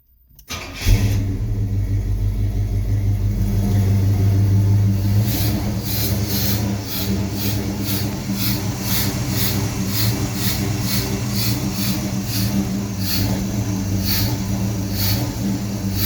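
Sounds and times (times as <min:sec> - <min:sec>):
car engine idling roughly: 0:00.8 - 0:16.0.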